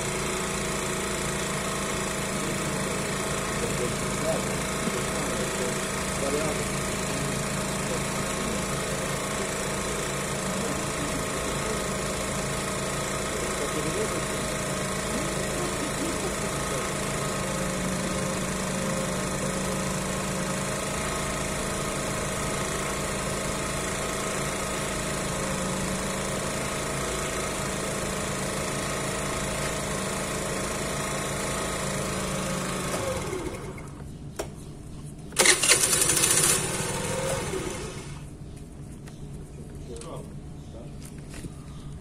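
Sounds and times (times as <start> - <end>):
scooter engine running: 0.0 - 34.2, 35.3 - 38.4.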